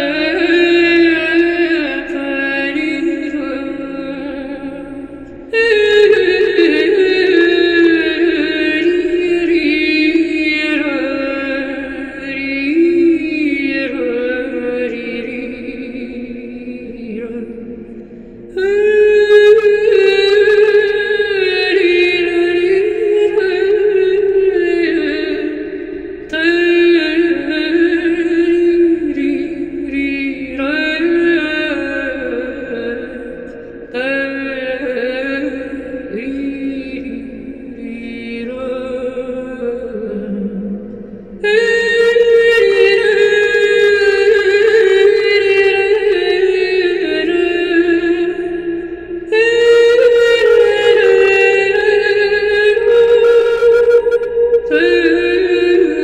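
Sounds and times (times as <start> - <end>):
chant-like singing: 0.0 - 56.0.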